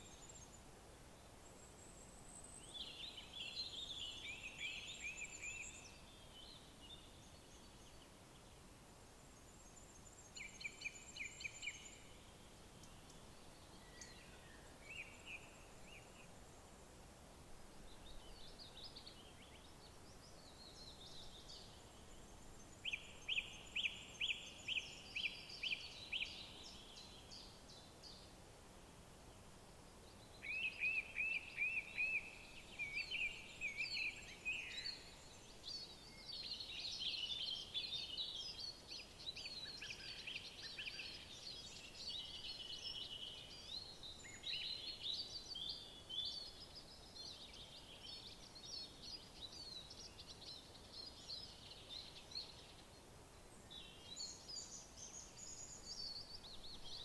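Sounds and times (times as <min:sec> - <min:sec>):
songbirds singing: 0:00.0 - 0:00.7, 0:01.4 - 0:08.6, 0:09.3 - 0:16.8, 0:17.7 - 0:28.4, 0:29.4 - 0:57.0
faint steady hiss: 0:00.0 - 0:57.0.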